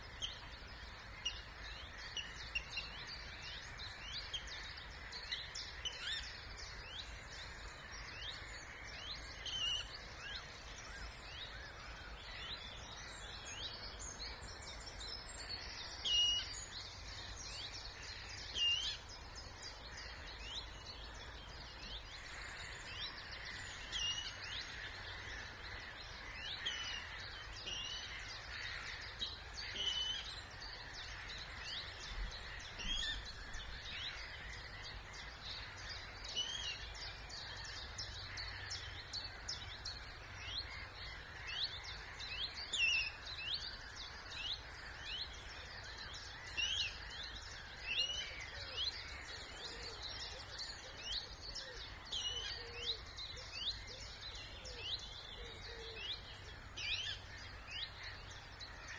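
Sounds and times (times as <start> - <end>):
birds singing and calling: 0.0 - 58.9
steady low background noise: 0.0 - 58.9.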